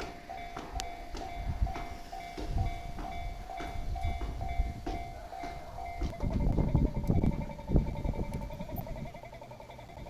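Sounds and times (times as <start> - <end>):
level-crossing warning bell ringing: 0.0 - 10.0
train rumbling on rails: 0.0 - 10.0.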